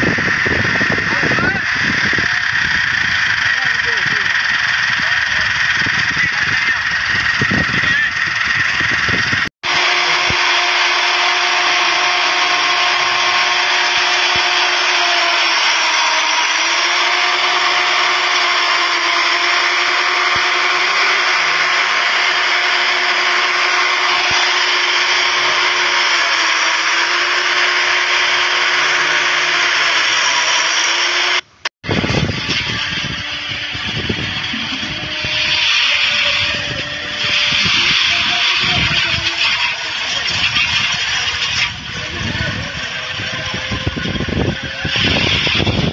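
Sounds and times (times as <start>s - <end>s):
machine motor whirring: 0.0s - 45.9s.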